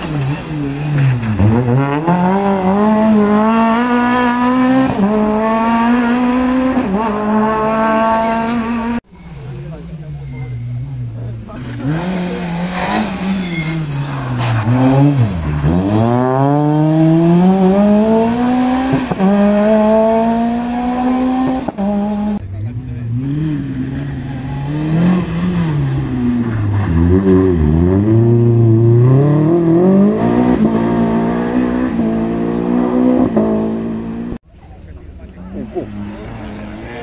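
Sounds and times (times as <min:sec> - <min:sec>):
rally car engines at full throttle: 0:00.0 - 0:37.0.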